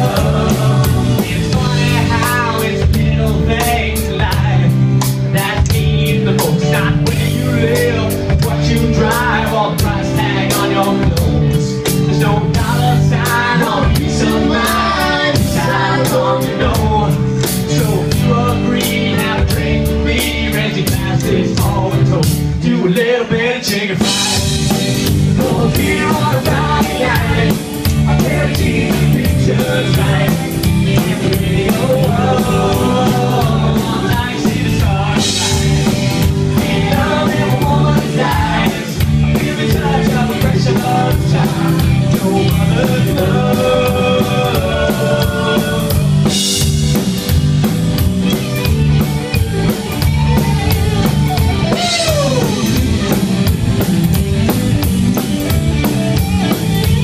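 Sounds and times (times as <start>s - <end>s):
drum kit steady beat: 0.0s - 22.8s, 23.6s - 57.0s
person singing: 0.0s - 46.5s, 49.9s - 53.2s
country band playing live: 0.0s - 57.0s.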